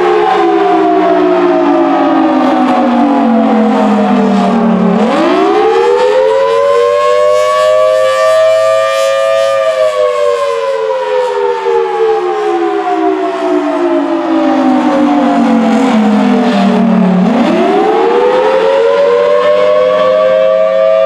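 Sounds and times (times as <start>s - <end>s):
rising and falling siren: 0.0s - 21.0s.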